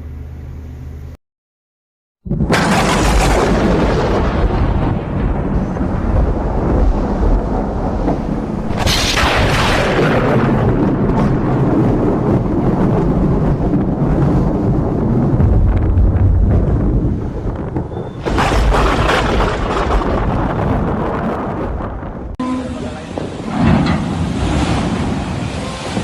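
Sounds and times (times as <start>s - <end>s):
wind buffeting microphone: 2.3s - 26.0s
rough sea waves: 2.6s - 26.0s.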